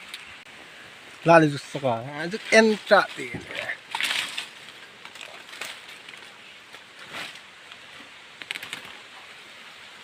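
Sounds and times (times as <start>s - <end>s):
faint outdoor background noise: 0.0s - 10.0s.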